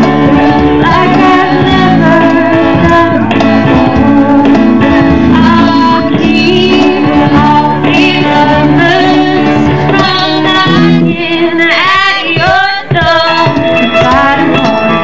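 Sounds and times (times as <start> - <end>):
cajon: 0.0 - 15.0
guitar: 0.0 - 15.0
keyboard: 0.0 - 15.0
woman singing lead: 0.0 - 15.0.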